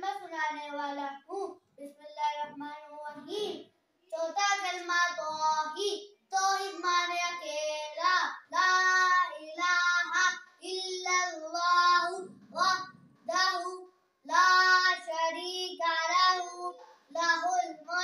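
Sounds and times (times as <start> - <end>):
boy chanting melodically: 0.0 - 18.0.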